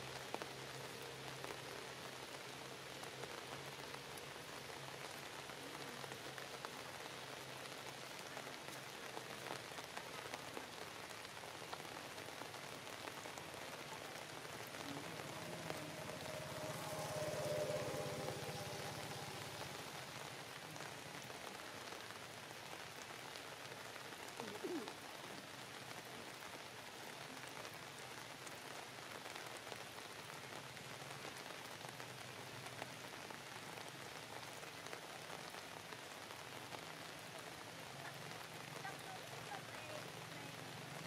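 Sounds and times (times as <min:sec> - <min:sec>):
faint hiss with crackling: 0:00.0 - 0:41.0.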